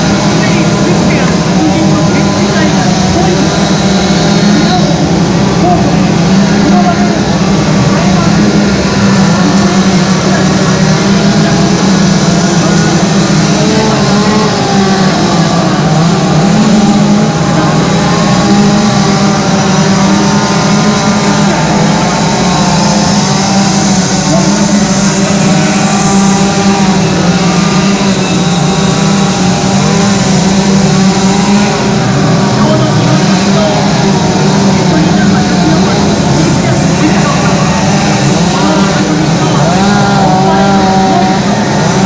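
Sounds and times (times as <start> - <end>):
chainsaws cutting wood: 0.0 - 42.0.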